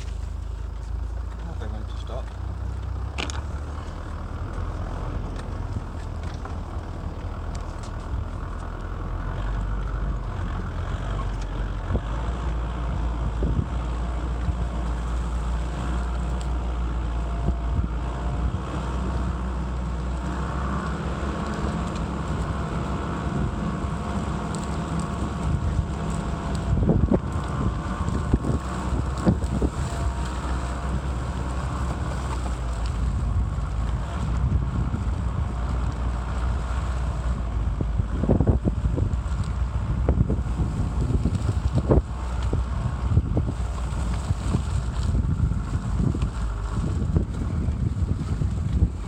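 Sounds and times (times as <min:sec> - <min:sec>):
faint engine tone: 0:00.0 - 0:49.0
motor vehicle low rumble: 0:00.0 - 0:49.0.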